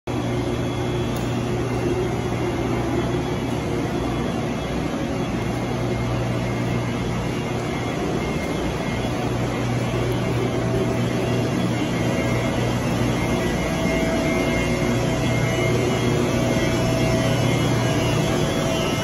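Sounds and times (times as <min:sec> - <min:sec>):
electric train equipment humming: 0:00.1 - 0:19.0.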